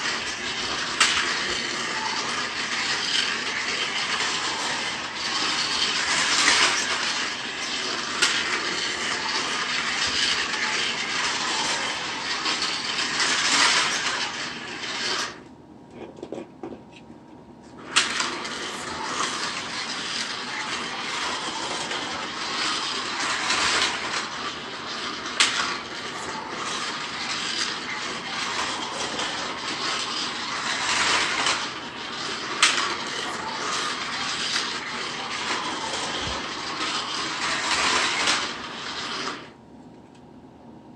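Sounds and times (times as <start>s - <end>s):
slot car motor whirring: 0.0s - 15.5s, 17.8s - 39.6s.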